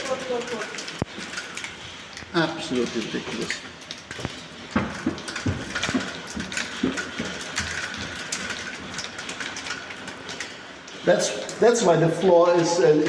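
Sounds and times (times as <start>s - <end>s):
drips and splashes on hard surfaces: 0.0s - 13.0s
rain falling steadily: 0.0s - 13.0s.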